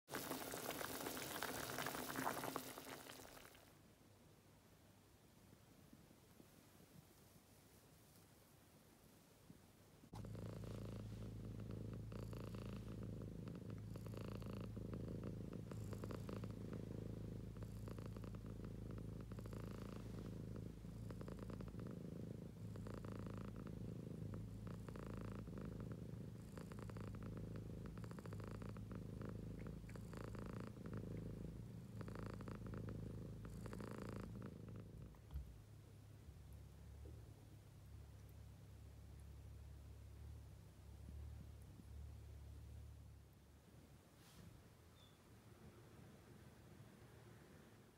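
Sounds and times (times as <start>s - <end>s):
cat purring: 0.0s - 3.7s, 10.0s - 47.9s.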